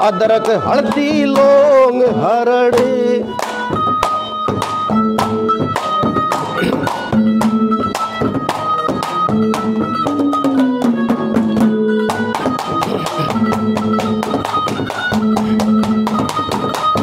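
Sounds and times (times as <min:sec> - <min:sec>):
folk instrumental melody: 0:00.0 - 0:17.0
steady drum beat: 0:00.0 - 0:17.0.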